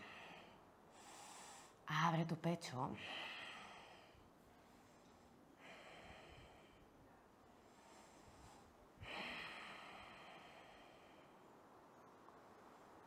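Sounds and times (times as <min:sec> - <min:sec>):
woman breathing: 0:00.0 - 0:01.8, 0:02.9 - 0:11.7.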